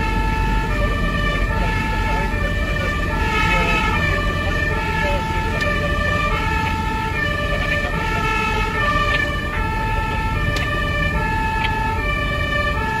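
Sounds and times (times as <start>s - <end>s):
two-tone emergency siren: 0.0s - 13.0s
vehicle driving rumble: 0.0s - 13.0s.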